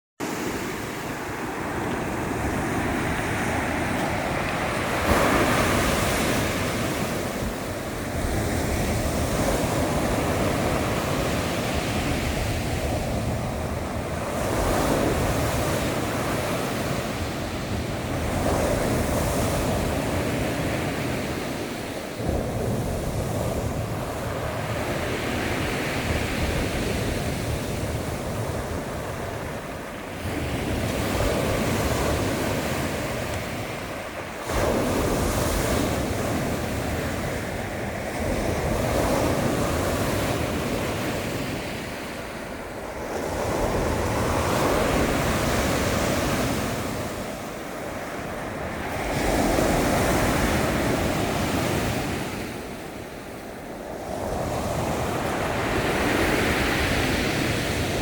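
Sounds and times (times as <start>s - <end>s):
sea waves breaking on shore: 0.2s - 58.0s
wind on microphone: 0.2s - 58.0s.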